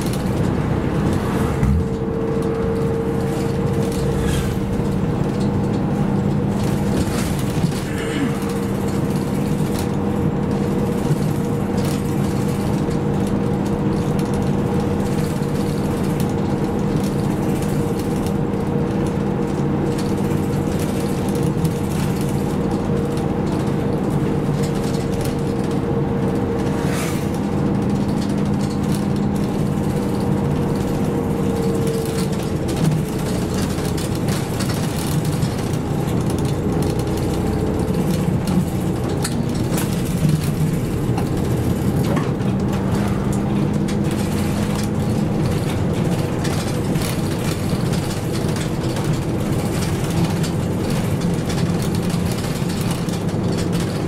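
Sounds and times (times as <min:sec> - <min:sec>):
bus engine with whine: 0:00.0 - 0:54.0
road noise: 0:00.0 - 0:54.0.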